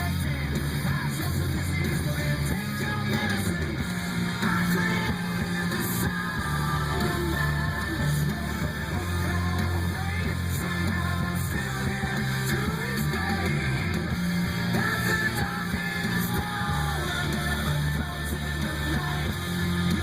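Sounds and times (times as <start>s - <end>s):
deep bass notes: 0.0s - 20.0s
rock music with singing: 0.0s - 20.0s.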